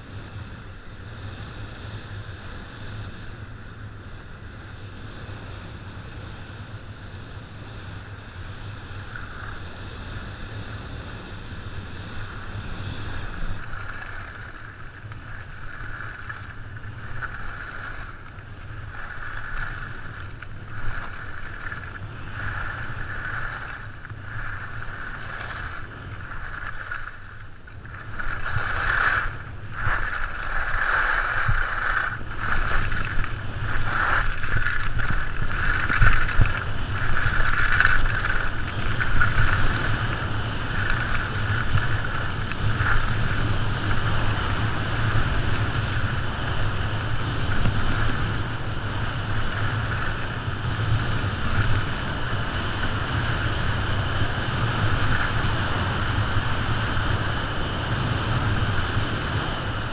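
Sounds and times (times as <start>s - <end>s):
wind on microphone: 0.0s - 59.9s
skis scraping on snow: 7.0s - 59.9s.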